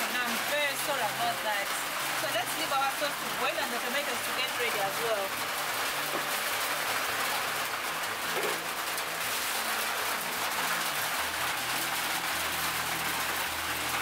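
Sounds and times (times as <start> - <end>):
rain on the roof: 0.0 - 14.0.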